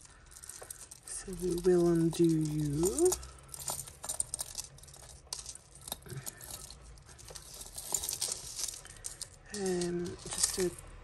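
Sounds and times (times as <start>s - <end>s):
metal chains and beads jingling: 0.0s - 11.0s.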